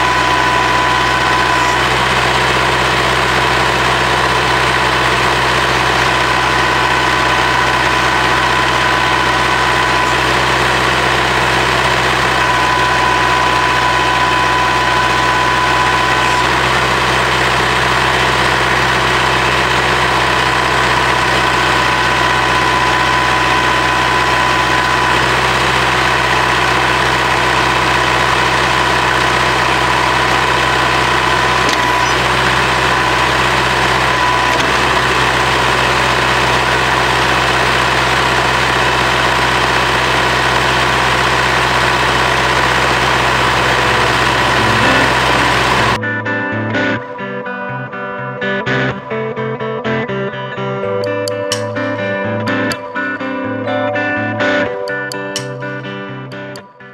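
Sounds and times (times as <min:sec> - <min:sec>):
hydraulic whining tones: 0:00.0 - 0:46.9
diesel tractor engine running: 0:00.0 - 0:48.8, 0:51.0 - 0:56.0.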